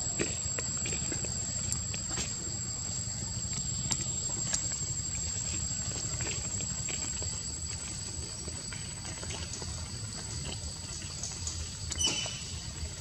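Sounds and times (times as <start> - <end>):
soft ticks and rustles: 0.1 - 13.0.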